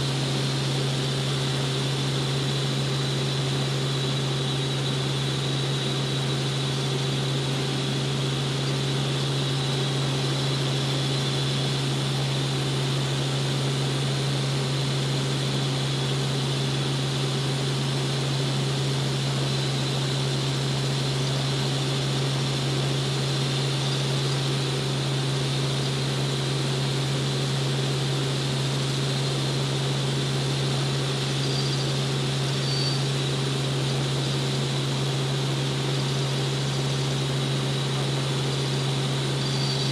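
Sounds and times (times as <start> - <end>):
faint high whine: 0.0 - 39.9
helicopter engine and rotor drone: 0.0 - 39.9.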